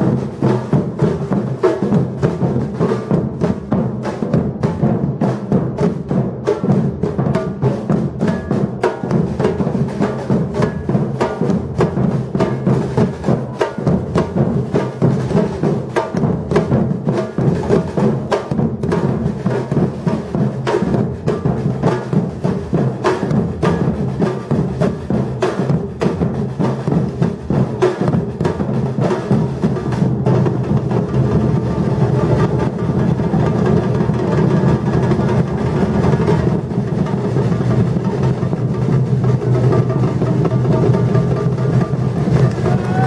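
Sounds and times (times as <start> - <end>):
drum ensemble rhythm: 0.0 - 43.0
heavy low drum: 0.0 - 43.0.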